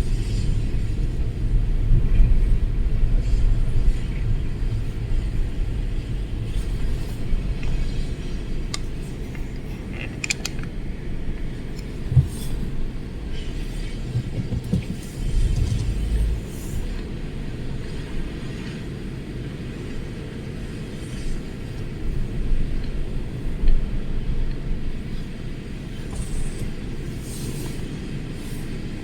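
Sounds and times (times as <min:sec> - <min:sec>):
storm wind buffeting microphone: 0:00.0 - 0:29.0.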